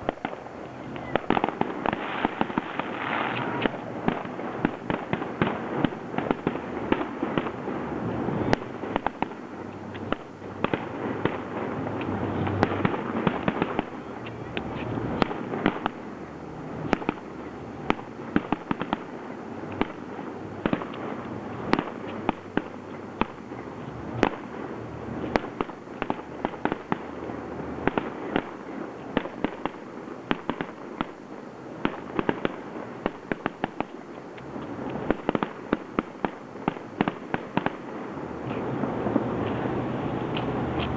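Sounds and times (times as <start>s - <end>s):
fireworks bangs: 0.0s - 40.9s
fireworks crackle: 0.0s - 40.9s.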